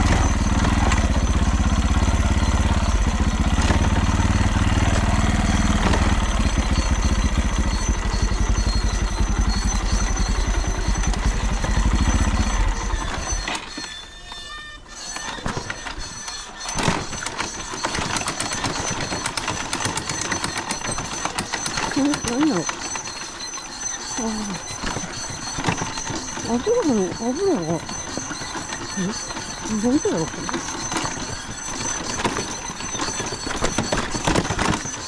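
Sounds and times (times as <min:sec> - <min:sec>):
engine running: 0:00.0 - 0:14.1, 0:14.9 - 0:35.0
engine rattle: 0:00.0 - 0:14.2, 0:14.9 - 0:35.0.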